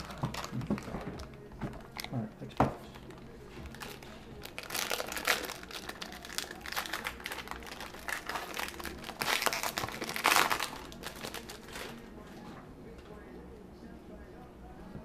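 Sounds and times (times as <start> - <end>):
crinkly plastic packaging rustling: 0.0 - 12.1.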